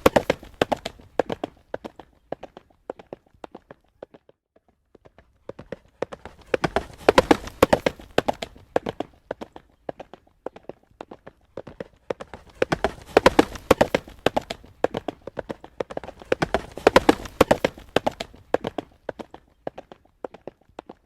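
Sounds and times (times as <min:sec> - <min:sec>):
horse hooves trotting on road: 0:00.0 - 0:21.0.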